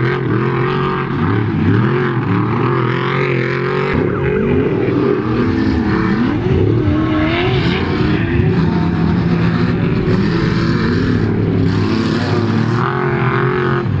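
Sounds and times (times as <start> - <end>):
race vehicle engines revving: 0.0 - 14.0.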